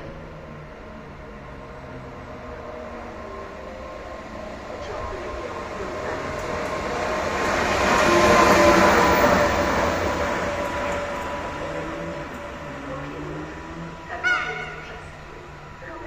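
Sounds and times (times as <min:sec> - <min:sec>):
electric locomotive whine: 0:00.0 - 0:16.0
wheel and rail noise: 0:00.0 - 0:16.0.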